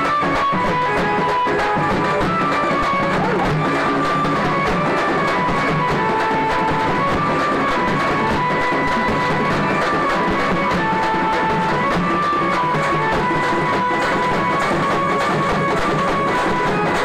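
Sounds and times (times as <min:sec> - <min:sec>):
frame drums beating fast: 0:00.0 - 0:17.0
wind instrument melody: 0:00.0 - 0:17.0.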